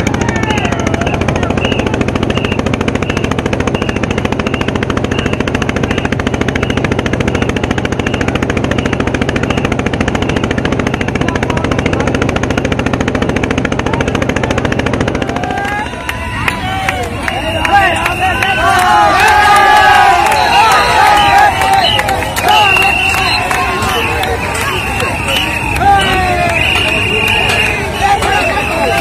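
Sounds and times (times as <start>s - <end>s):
motorboat engine chugging: 0.0s - 29.0s.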